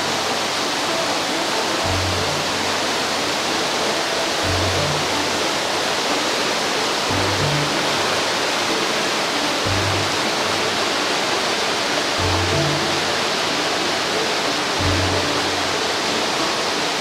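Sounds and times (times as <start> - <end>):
soft background music: 0.0 - 17.0
stream rushing over rocks: 0.0 - 17.0.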